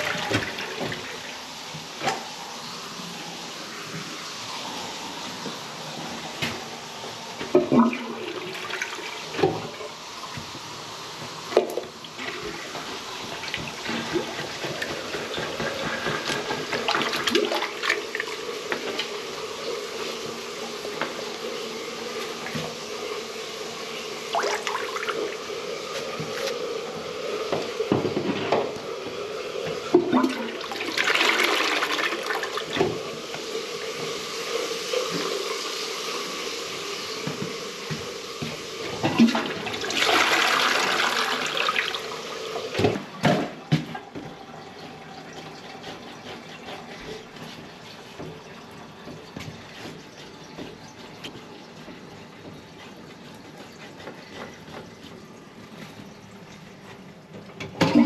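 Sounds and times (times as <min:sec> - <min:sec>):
plunger sloshing water in toilet: 0:00.0 - 0:02.5, 0:03.4 - 0:10.6, 0:11.2 - 0:21.5, 0:24.3 - 0:35.5, 0:36.7 - 0:58.0
toilet flushing: 0:00.0 - 0:58.0.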